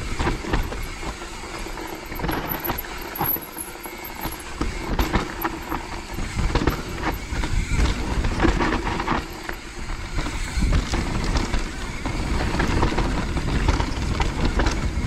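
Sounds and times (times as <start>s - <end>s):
bike knocking and rattling: 0.0s - 15.0s
bike tyres rolling over dirt: 0.0s - 15.0s.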